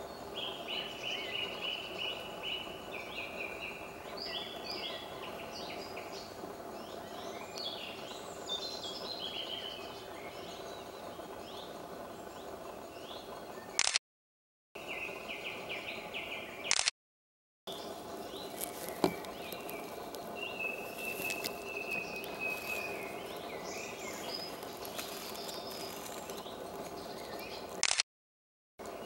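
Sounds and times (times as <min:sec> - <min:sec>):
birds singing: 0:00.0 - 0:13.9, 0:14.8 - 0:16.8, 0:17.7 - 0:27.8.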